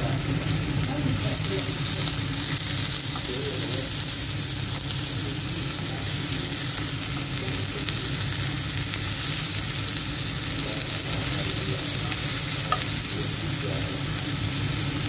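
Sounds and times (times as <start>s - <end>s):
chicken sizzling in oil: 0.0s - 15.0s
tongs turning food: 0.1s - 13.6s.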